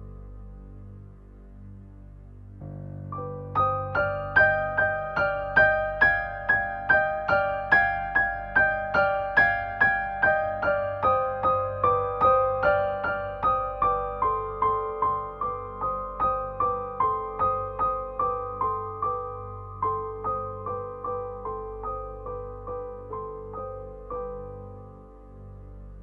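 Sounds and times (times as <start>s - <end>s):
gentle keyboard melody: 0.0s - 26.0s.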